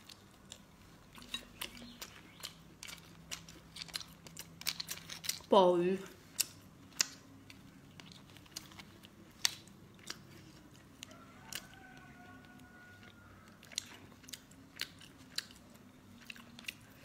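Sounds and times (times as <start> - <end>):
person chewing seafood: 0.0 - 5.5, 6.2 - 17.0.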